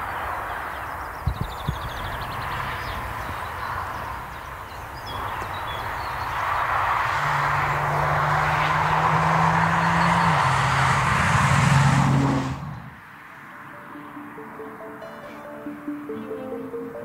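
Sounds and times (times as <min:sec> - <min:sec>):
car tyre noise: 0:00.0 - 0:13.6.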